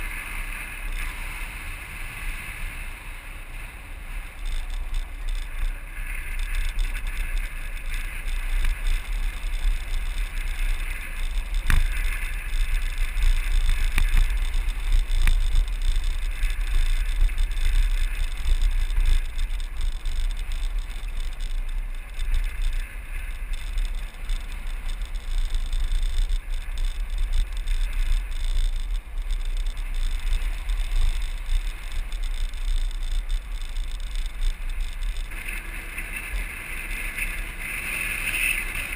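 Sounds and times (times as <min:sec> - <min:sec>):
wheels rolling hiss: 0:00.0 - 0:38.9
wind buffeting microphone: 0:00.0 - 0:38.9
sharp clicks: 0:04.3 - 0:36.3.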